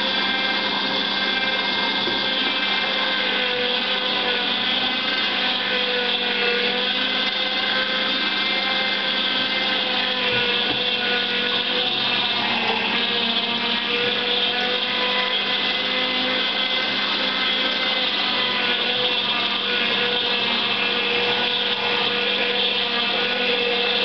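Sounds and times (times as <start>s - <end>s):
juicer motor humming: 0.0s - 24.0s.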